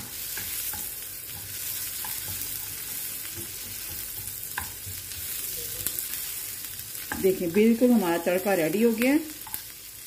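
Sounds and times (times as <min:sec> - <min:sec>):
spatula tapping pan: 0:00.0 - 0:06.1, 0:07.0 - 0:09.6
food sizzling in hot butter: 0:00.0 - 0:10.0.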